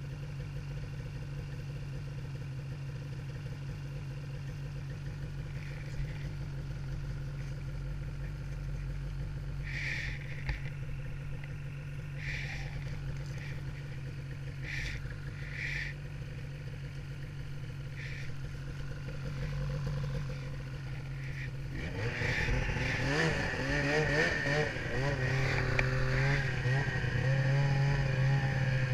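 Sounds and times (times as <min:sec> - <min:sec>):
snowmobile engine running: 0:04.0 - 0:28.9.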